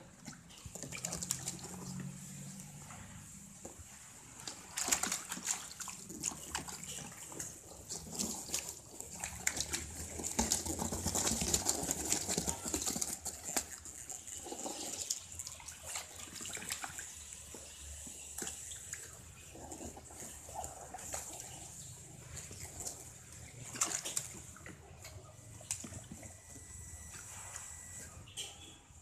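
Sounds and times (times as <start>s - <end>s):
water splashing in plastic tub: 0.0s - 27.9s.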